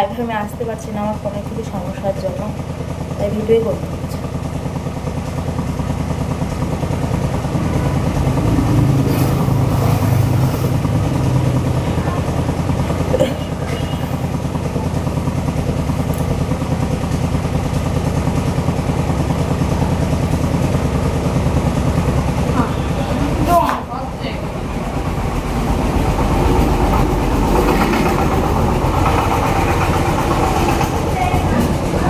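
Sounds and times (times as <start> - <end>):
engine chugging: 0.0 - 32.0.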